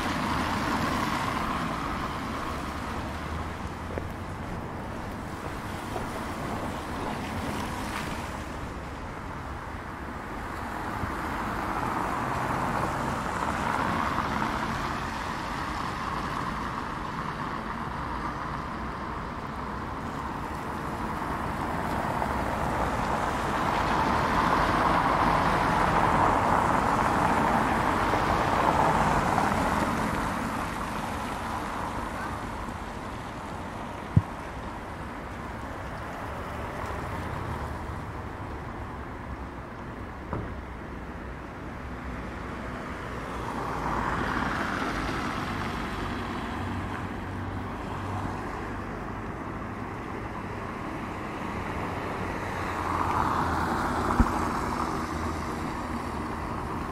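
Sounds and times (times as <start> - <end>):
vehicles passing: 0.0 - 56.9.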